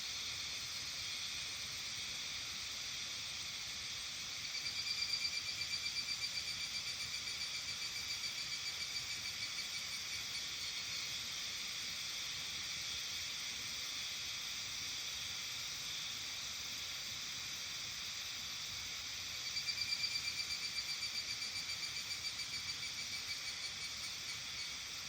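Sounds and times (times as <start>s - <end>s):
insect chorus chirring: 0.0s - 25.0s
pulsing insect trill: 0.0s - 25.0s.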